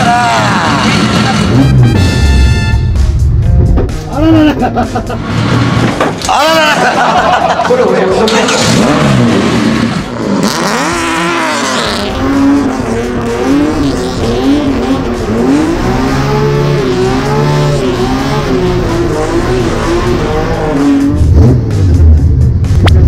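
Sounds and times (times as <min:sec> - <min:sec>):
car engine revving: 0:00.0 - 0:03.4, 0:04.0 - 0:06.3, 0:08.1 - 0:23.0.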